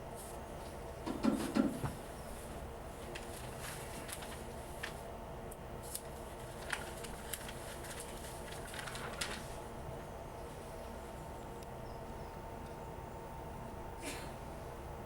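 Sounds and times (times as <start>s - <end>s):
train low steady hum: 0.0s - 15.0s.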